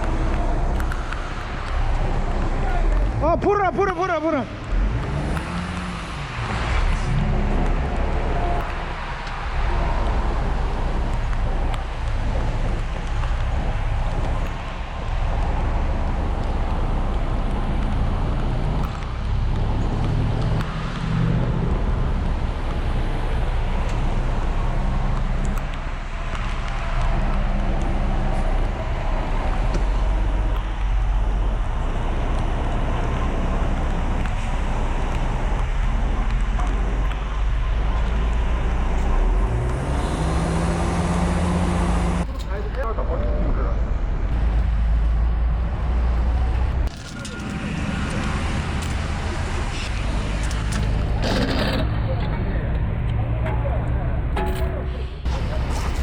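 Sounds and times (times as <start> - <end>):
diesel truck engine running: 0.0 - 56.0
road and traffic noise: 0.0 - 56.0.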